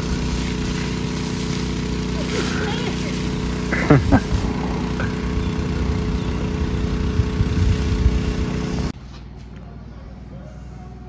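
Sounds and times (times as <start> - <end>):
diesel engine idling: 0.0 - 8.9.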